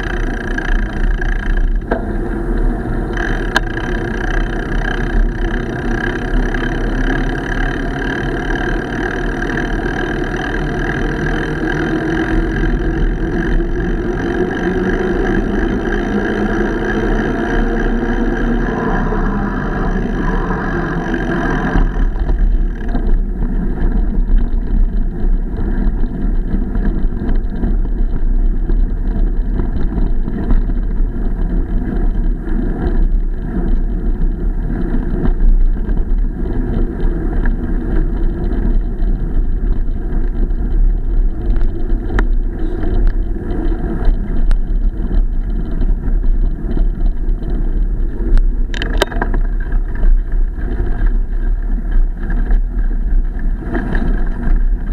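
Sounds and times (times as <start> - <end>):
bicycle tyres rolling on trail: 0.0 - 54.9
rumbling wind: 0.0 - 54.9.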